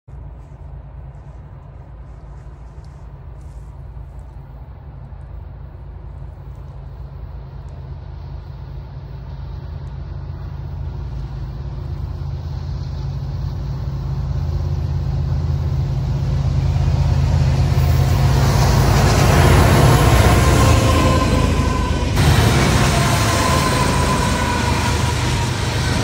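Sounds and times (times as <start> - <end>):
diesel locomotive engine rumble: 0.1 - 26.0
train wheel and rail noise: 0.1 - 26.0.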